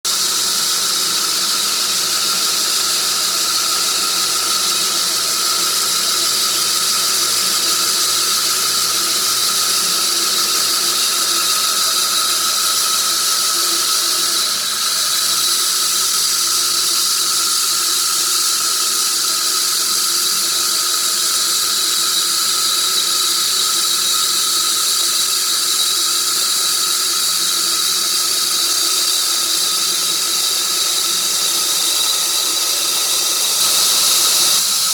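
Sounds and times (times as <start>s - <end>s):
saw cutting log whining: 0.0s - 34.9s.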